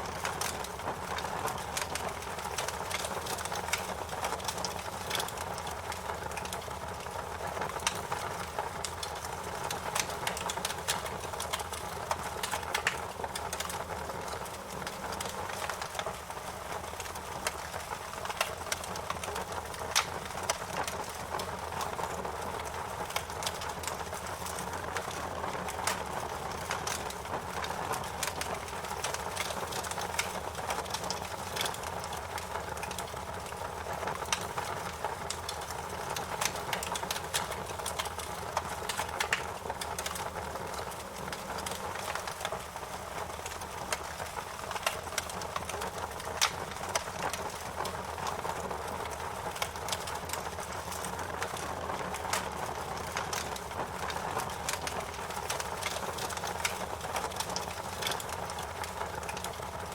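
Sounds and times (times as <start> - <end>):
wood fire crackling and popping: 0.0 - 59.9
flames rushing: 0.1 - 59.9.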